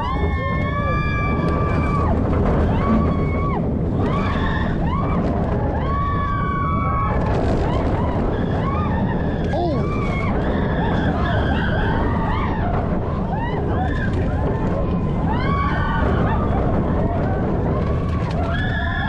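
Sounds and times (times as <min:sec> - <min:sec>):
riders screaming and whooping: 0:00.0 - 0:19.0
roller coaster train rumbling: 0:00.0 - 0:19.0
wind on microphone: 0:00.0 - 0:19.0.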